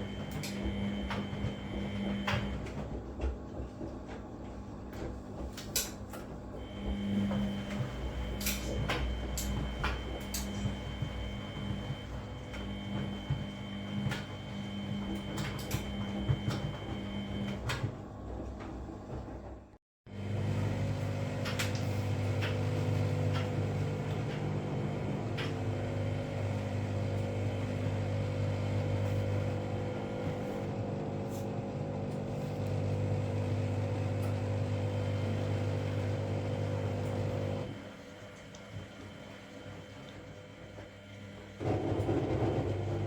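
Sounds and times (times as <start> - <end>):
washing machine motor humming: 0.0 - 43.0.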